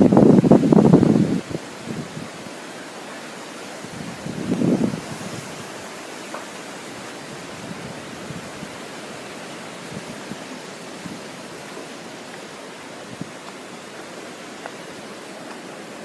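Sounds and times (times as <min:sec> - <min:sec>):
wind buffeting microphone: 0:00.0 - 0:02.8, 0:03.7 - 0:16.0
strong wind blowing: 0:00.0 - 0:16.0.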